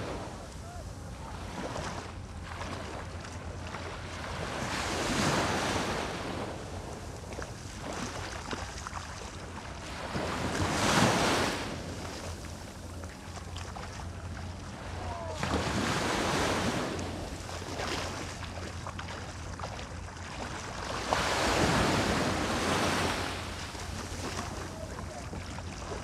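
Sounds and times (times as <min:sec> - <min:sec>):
small waves breaking on beach: 0:00.0 - 0:26.0.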